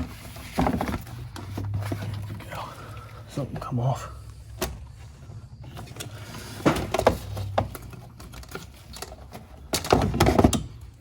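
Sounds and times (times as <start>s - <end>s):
tools and engine parts clattering: 0.0s - 3.7s, 4.5s - 11.0s.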